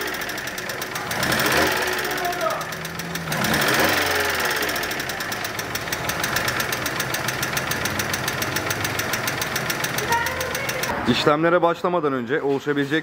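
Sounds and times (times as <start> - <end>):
metallic valve ticking: 0.0 - 10.9
car engine idling: 0.0 - 11.0.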